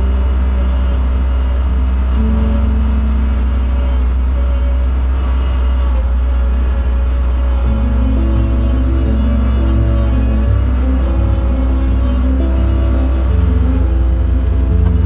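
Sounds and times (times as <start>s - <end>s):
loader engine droning: 0.0s - 15.0s.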